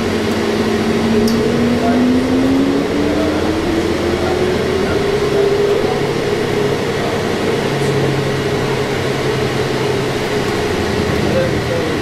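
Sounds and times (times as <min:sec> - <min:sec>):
bus engine drone: 0:00.0 - 0:12.0
road noise: 0:00.0 - 0:12.0
steady whine: 0:00.0 - 0:12.0.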